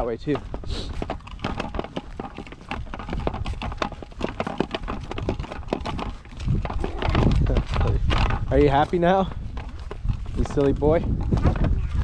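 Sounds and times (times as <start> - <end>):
footsteps on a trail: 0.0 - 12.0.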